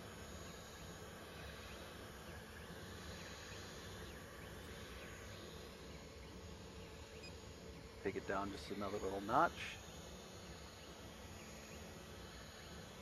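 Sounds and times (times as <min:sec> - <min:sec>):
printer fans and motors humming: 0:00.0 - 0:13.0.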